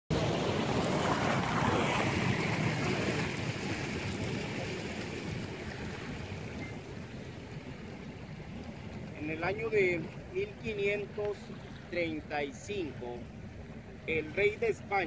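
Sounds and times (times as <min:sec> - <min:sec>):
rush of wind and water: 0:00.1 - 0:15.0.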